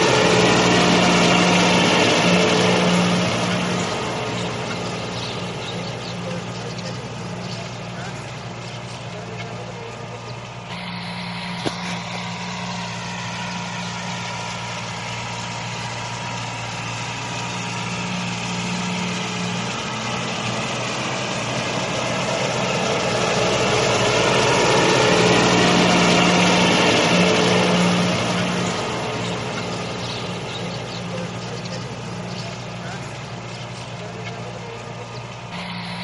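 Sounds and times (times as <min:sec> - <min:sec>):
steady engine drone: 0:00.0 - 0:36.0.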